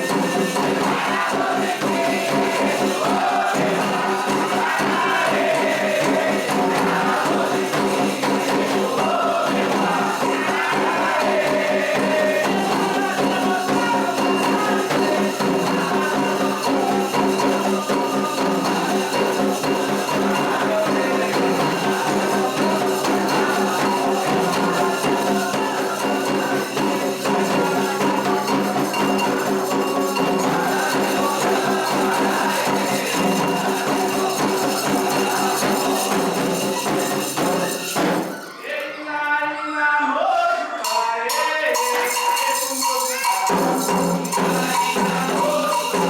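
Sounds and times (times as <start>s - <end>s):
hand percussion rhythm: 0.0s - 38.6s, 40.8s - 46.0s.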